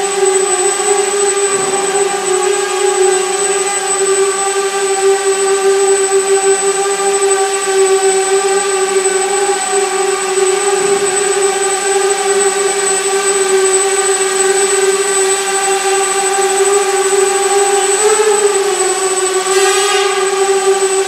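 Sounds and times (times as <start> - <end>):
quadcopter propellers whining: 0.0 - 21.0.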